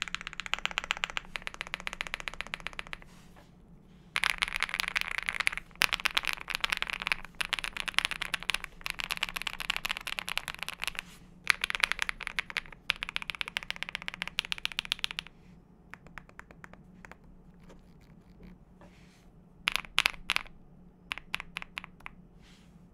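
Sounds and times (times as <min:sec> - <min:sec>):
mechanical keyboard typing: 0:00.0 - 0:03.1, 0:04.2 - 0:15.3, 0:16.0 - 0:18.5, 0:19.7 - 0:22.2.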